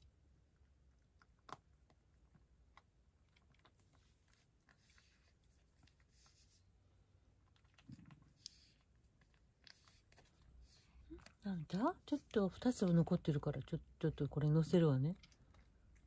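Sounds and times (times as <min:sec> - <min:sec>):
cat chewing dry kibble: 0:00.0 - 0:13.2, 0:15.0 - 0:16.0.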